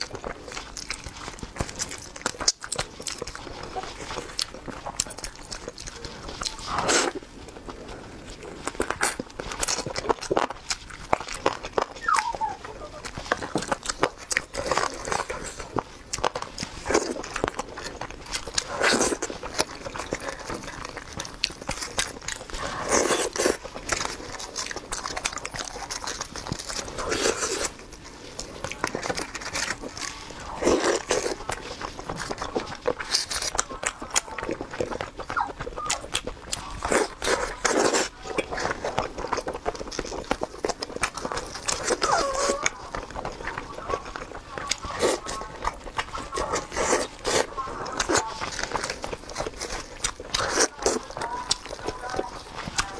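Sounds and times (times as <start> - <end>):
wet chewing clicks and smacks: 0.0 - 52.9.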